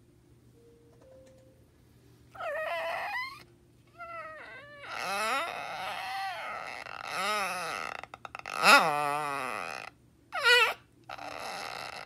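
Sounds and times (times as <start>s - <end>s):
small dog whining: 2.4s - 12.0s.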